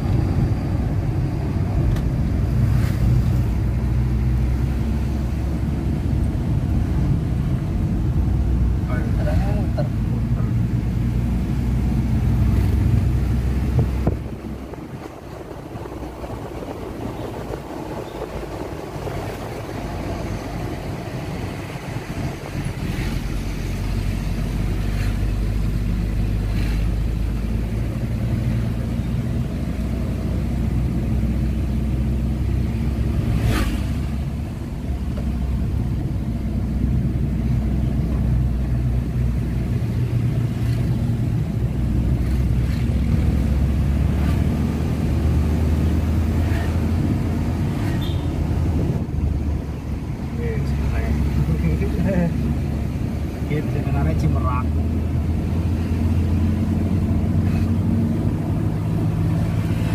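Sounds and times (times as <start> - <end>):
road noise: 0.0 - 59.9
vehicle engine humming: 0.0 - 59.9.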